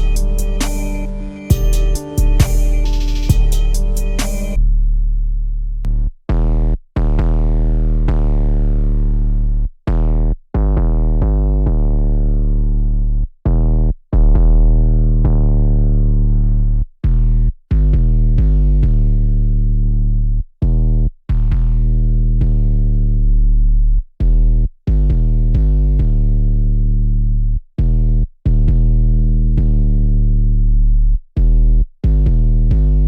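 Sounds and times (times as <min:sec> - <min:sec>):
trap beat with deep synth bass: 0:00.0 - 0:27.2, 0:27.8 - 0:33.0.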